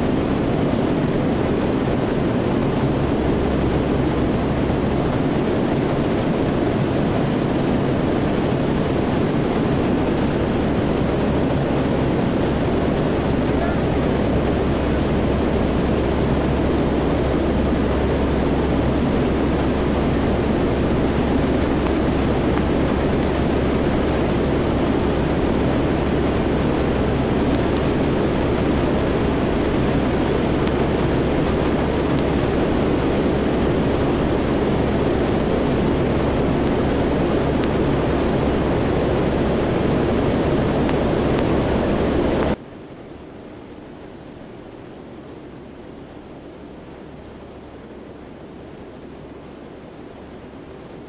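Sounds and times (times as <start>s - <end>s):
rush of airflow: 0.0s - 42.7s
turboprop engines droning: 0.0s - 51.0s.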